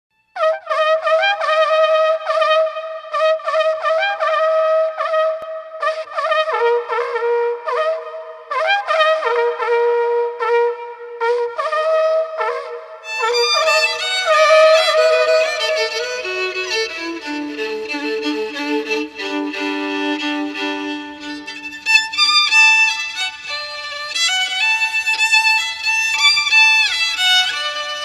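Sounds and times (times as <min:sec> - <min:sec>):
horn-like wind instrument melody: 0:00.4 - 0:28.0.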